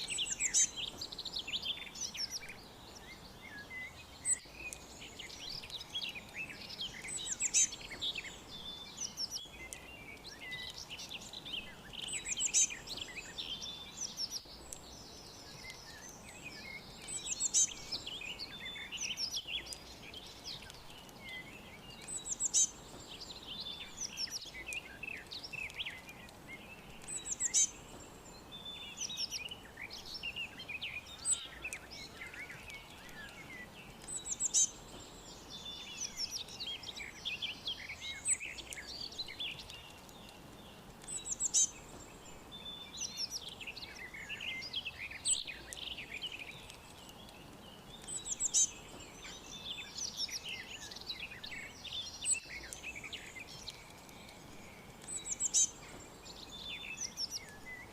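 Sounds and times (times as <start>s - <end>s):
faint steady hiss: 0.0s - 57.9s
loud high birdsong: 0.0s - 57.9s
songbirds chirping: 0.0s - 57.9s.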